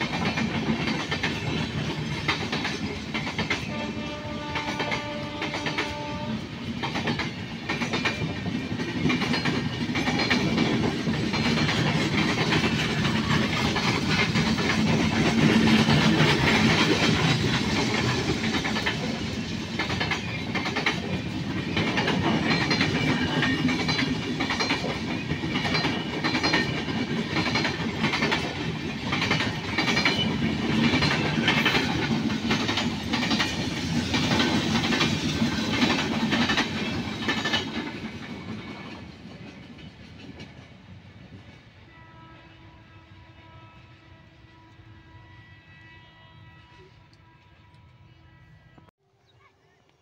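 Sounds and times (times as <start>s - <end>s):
freight train wheels clattering: 0.0s - 41.6s.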